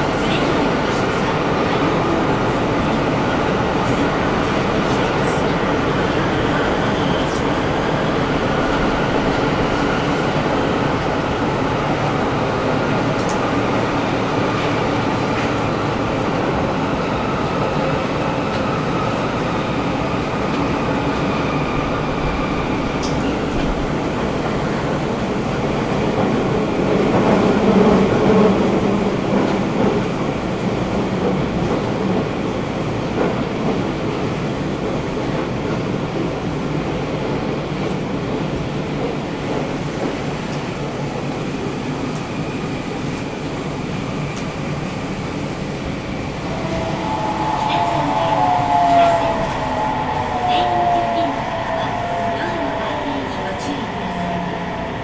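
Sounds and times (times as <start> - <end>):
train wheels rumbling in tunnel: 0.0 - 55.0.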